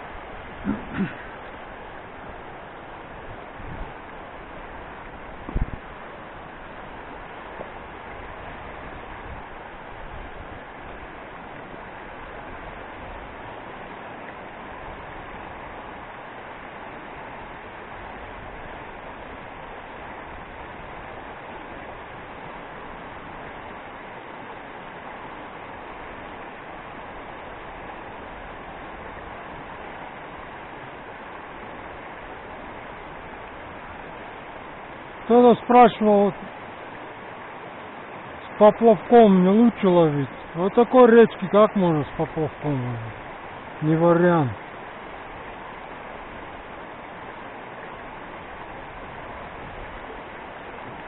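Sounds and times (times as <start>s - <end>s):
stream rushing over stones: 0.0s - 51.0s.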